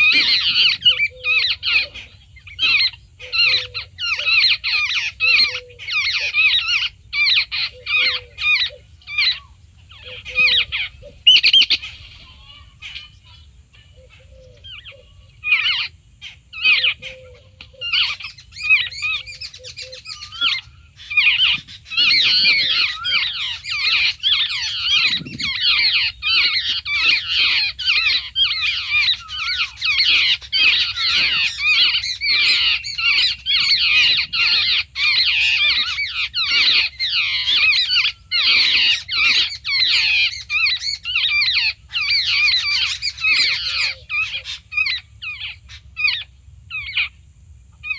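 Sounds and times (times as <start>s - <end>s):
birds squawking chatter: 0.0s - 47.9s.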